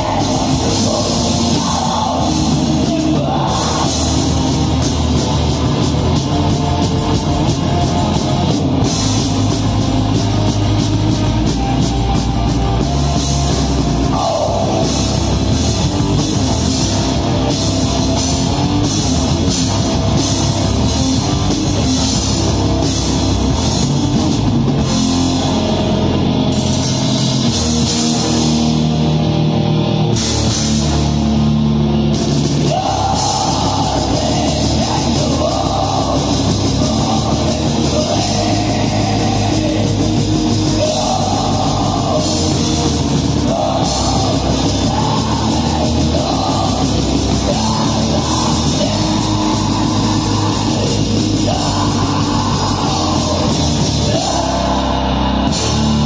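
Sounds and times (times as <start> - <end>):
heavy metal band playing live: 0.0 - 56.0
rapid drum and cymbal hits: 0.0 - 56.0.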